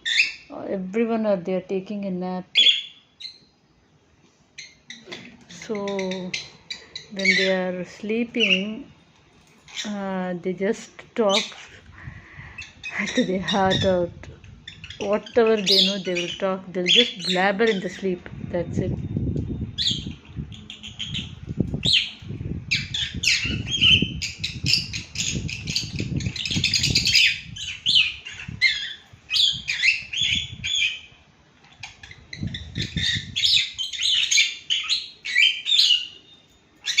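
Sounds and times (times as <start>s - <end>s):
birds chattering and chirping: 0.0s - 37.0s.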